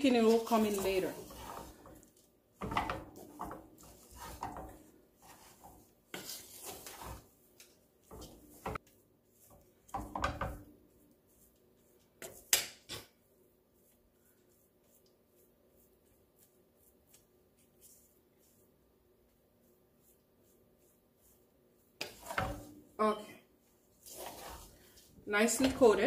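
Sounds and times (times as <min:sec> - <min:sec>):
wooden spatula scraping a pot: 0:00.0 - 0:12.5, 0:13.6 - 0:26.0.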